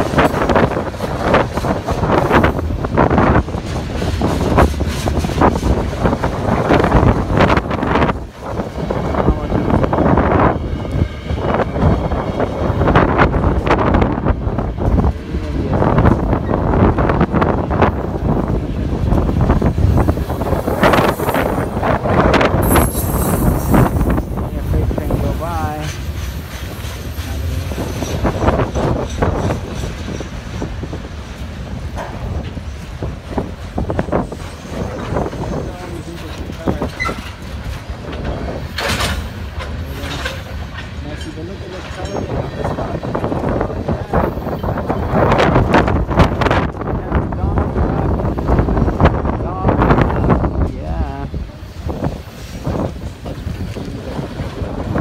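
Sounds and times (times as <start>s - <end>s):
clanks and wheel clatter: 0.0s - 47.3s
freight cars rolling on rails: 0.0s - 55.0s
wind buffeting microphone: 0.0s - 55.0s.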